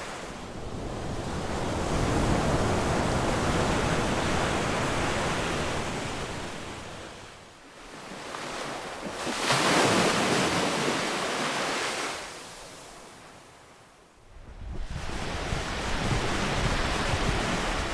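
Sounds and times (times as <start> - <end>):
ocean waves washing on beach: 0.0 - 14.0, 14.8 - 17.9.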